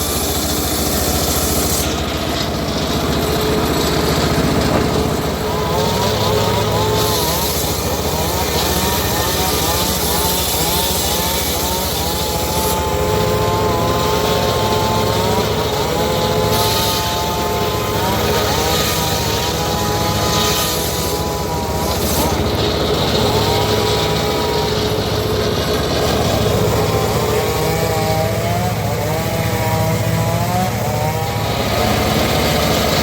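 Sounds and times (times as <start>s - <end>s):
saw whine: 0.0s - 33.0s
sawmill engine running: 0.0s - 33.0s.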